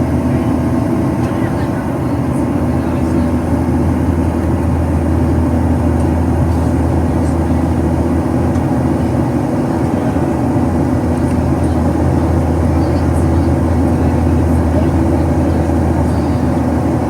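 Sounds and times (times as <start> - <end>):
jet engines droning: 0.0 - 17.0.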